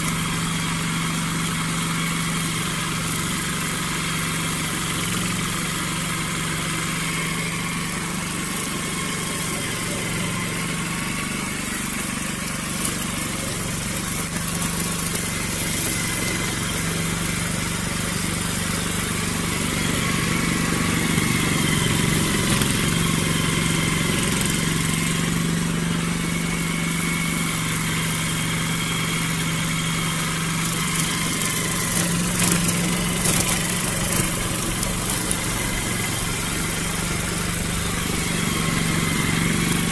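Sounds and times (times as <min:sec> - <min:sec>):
grass cutter engine running: 0:00.0 - 0:39.9.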